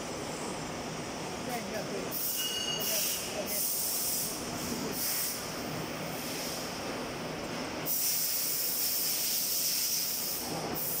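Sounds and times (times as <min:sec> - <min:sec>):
steady hiss: 0:02.1 - 0:11.0.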